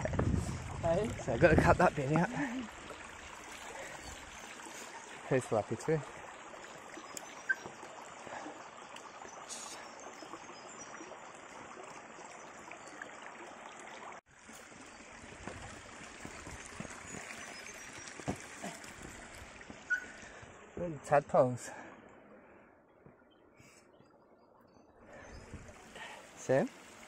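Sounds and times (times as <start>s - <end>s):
creek water running over rocks: 0.0s - 27.0s.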